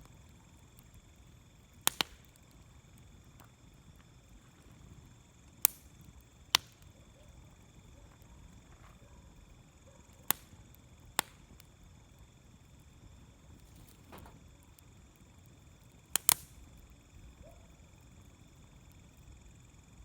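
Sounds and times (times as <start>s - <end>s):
wood fire popping: 0.0s - 20.0s.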